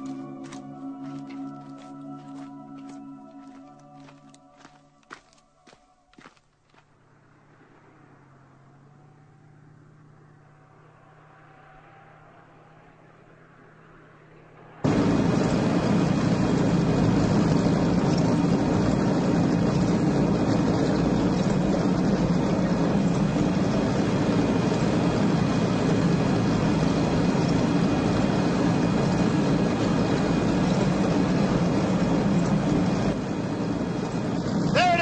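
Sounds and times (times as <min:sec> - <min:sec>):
tank engine and tracks running: 0:00.0 - 0:35.0.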